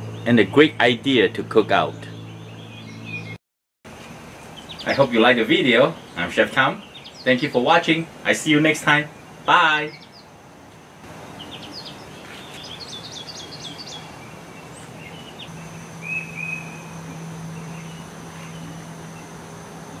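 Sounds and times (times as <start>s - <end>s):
small birds chirping: 0.0s - 20.0s
low steady hum: 3.9s - 20.0s
steady background hiss: 3.9s - 20.0s.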